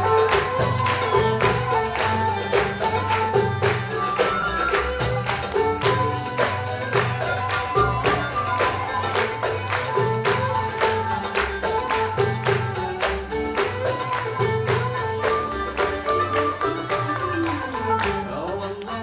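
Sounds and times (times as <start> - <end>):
hand percussion beat: 0.0 - 19.0
plucked and bowed instruments: 0.0 - 19.0.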